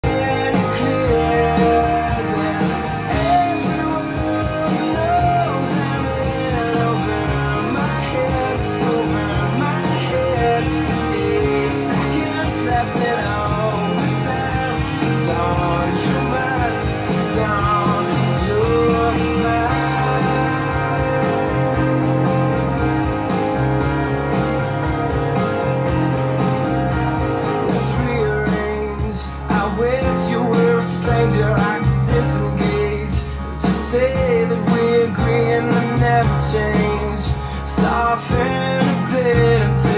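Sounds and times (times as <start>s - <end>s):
guitar-led song with steady beat: 0.0s - 39.9s.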